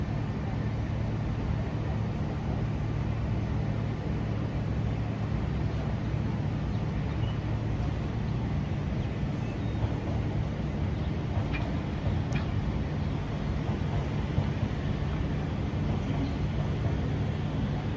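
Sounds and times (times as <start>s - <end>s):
metro train rumble and hum: 0.0s - 17.9s.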